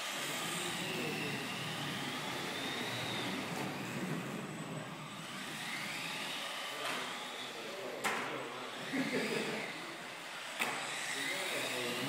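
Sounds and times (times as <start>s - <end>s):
rc car motors whining: 0.0s - 12.0s
steady running noise: 0.0s - 12.0s.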